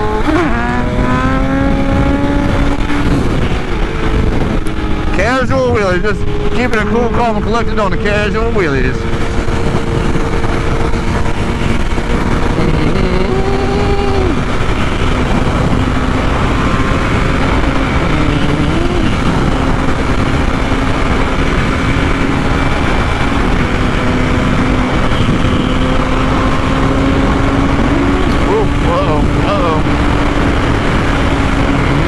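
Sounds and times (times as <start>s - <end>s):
motorcycle engine at high speed: 0.0s - 32.0s
wind rush: 0.0s - 32.0s.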